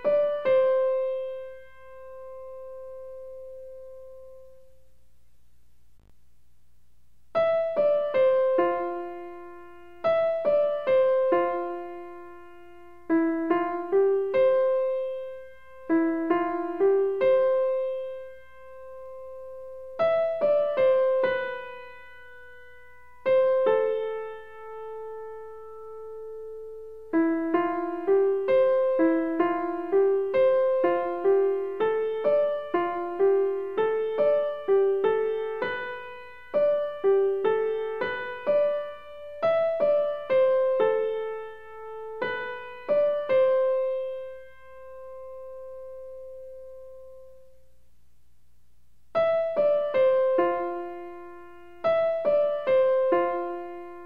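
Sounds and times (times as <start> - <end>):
gentle piano melody: 0.0 - 4.9, 7.4 - 47.8, 49.1 - 54.0.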